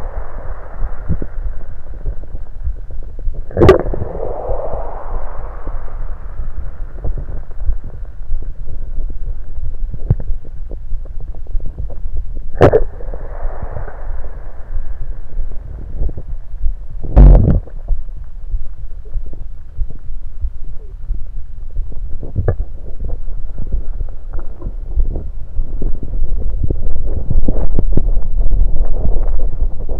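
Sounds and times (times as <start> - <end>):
soft hiss: 0.0 - 27.3
stomach gurgling: 0.0 - 29.9.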